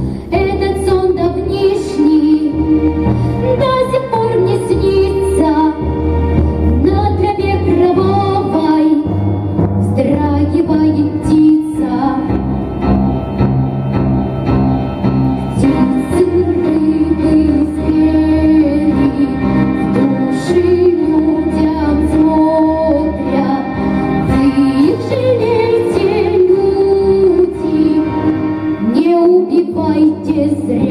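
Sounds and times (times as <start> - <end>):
backing track: 0.0 - 30.9
girl singing a slow song: 0.2 - 5.9, 6.8 - 12.4, 15.6 - 30.9.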